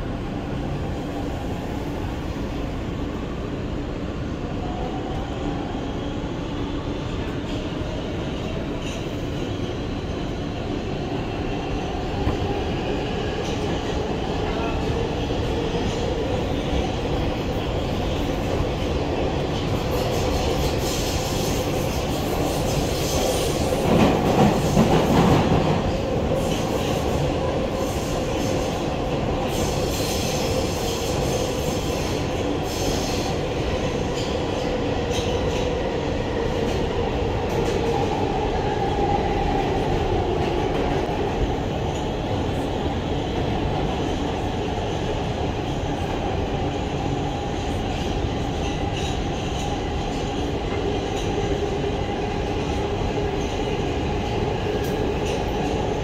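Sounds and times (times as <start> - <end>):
subway wheels rumbling on rail: 0.0 - 56.0.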